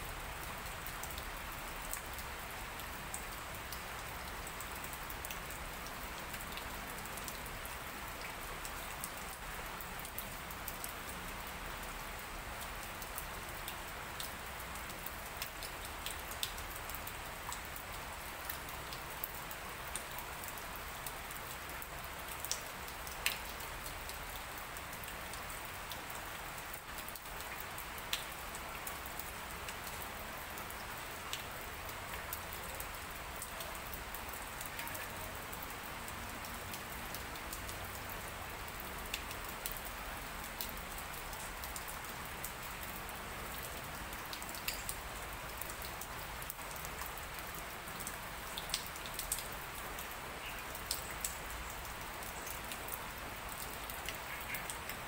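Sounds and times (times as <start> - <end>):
light rain hissing: 0.0 - 55.0
raindrops ticking: 0.2 - 55.0.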